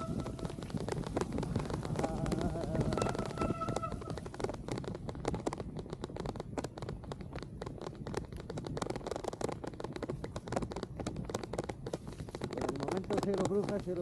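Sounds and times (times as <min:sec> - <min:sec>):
raindrops striking microphone: 0:00.0 - 0:14.0
rolling bicycle tyres: 0:00.0 - 0:14.0
wind rumble: 0:00.0 - 0:14.0.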